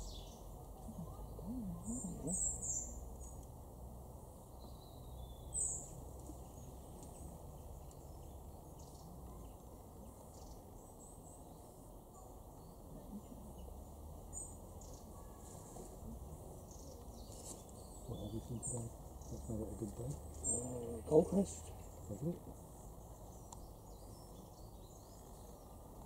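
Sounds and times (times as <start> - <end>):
songbird calls: 0.0 - 3.6, 4.3 - 26.0
faint low background noise: 0.0 - 26.0.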